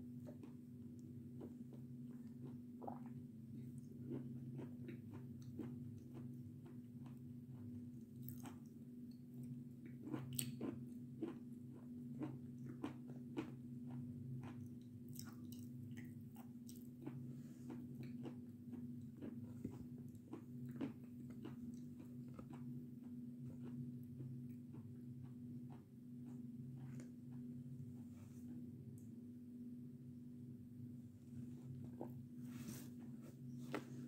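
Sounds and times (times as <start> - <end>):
chewing crunchy food: 0.0 - 27.8
faint steady hum: 0.0 - 34.0.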